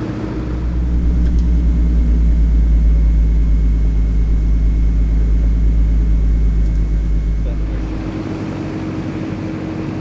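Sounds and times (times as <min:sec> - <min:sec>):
piston aircraft engine rumble: 0:00.0 - 0:10.0.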